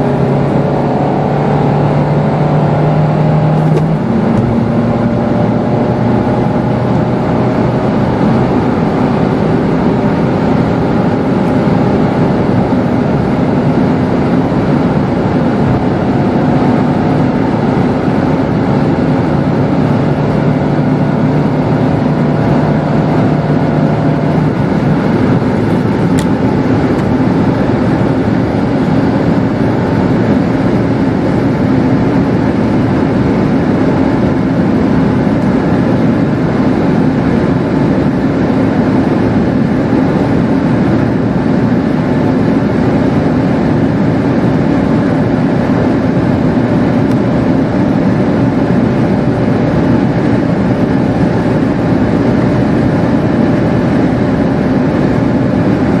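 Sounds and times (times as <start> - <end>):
diesel engine drone: 0.0 - 56.0
wind and road noise: 0.0 - 56.0.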